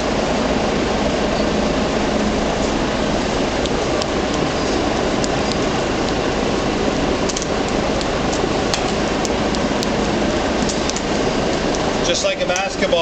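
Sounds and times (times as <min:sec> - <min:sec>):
mechanical noise with low hum: 0:00.0 - 0:13.0.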